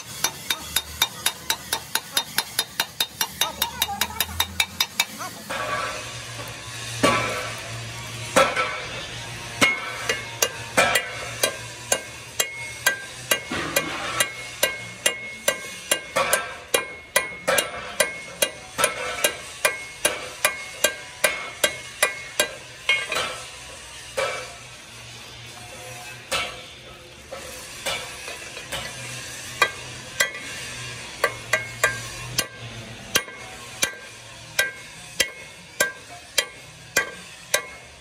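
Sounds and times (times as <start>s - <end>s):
hammer striking steel: 0.0s - 7.7s, 8.3s - 24.7s, 26.3s - 38.0s.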